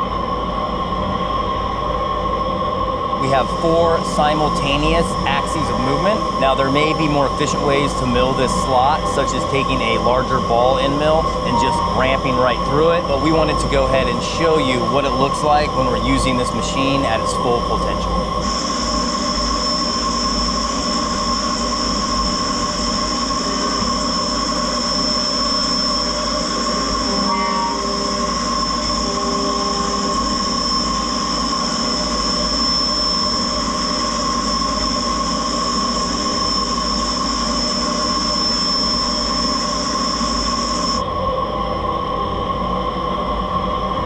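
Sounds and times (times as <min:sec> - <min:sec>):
high-pitched spindle whine: 0:00.0 - 0:44.0
low machine hum: 0:00.0 - 0:44.0.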